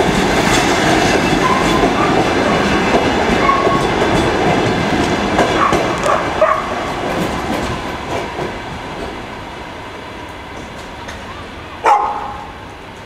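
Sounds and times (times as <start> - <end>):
train wheels clicking over joints: 0.0 - 9.6, 10.2 - 13.0.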